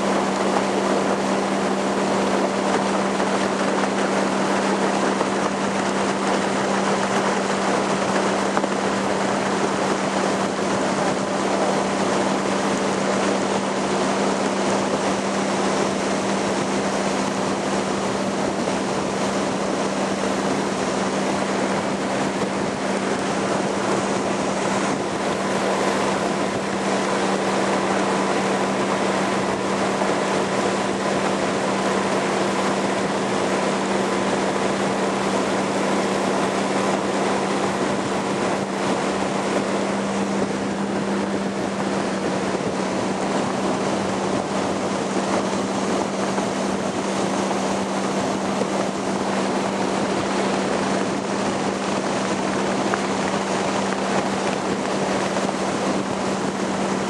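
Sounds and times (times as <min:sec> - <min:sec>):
motorboat engine hum: 0:00.0 - 0:57.0
rush of wind and water: 0:00.0 - 0:57.0.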